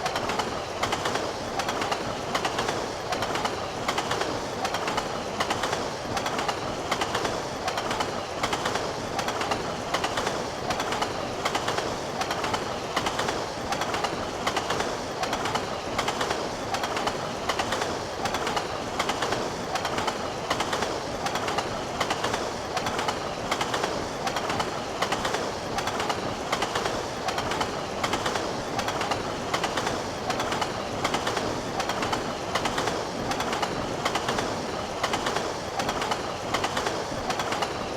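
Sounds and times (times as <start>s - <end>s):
train rumbling on rails: 0.0s - 37.9s
wheels clickety-clack over rail joints: 0.0s - 37.9s.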